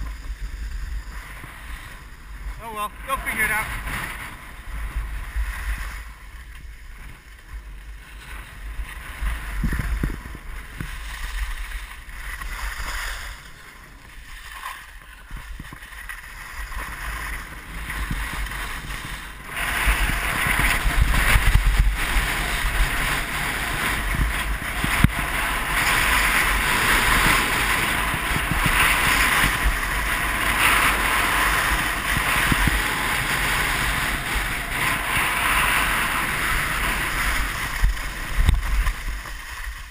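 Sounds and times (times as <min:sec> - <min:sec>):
skis scraping over snow: 0:00.0 - 0:39.9
wind on microphone: 0:00.0 - 0:39.9.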